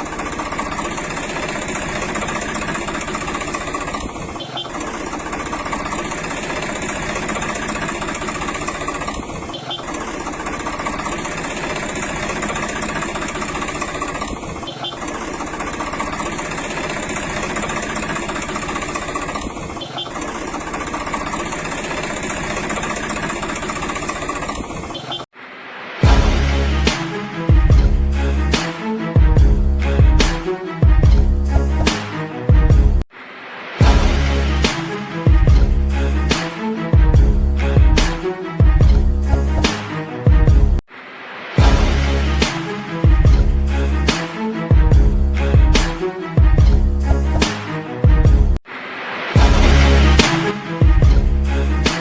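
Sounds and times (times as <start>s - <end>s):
engine idling with knocking beat: 0.0s - 25.2s, 26.0s - 33.0s, 33.8s - 40.8s, 41.6s - 48.6s, 49.4s - 52.0s.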